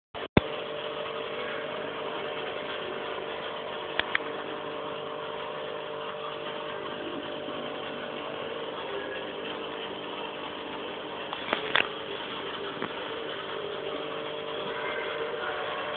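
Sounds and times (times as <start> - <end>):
aquarium pump humming: 0.2 - 15.9.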